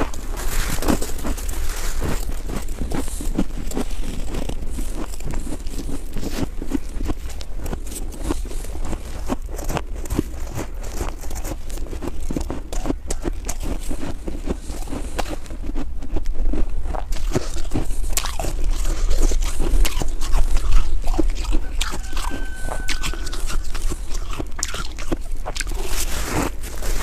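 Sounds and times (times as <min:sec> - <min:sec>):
chewing snow: 0:00.0 - 0:27.0.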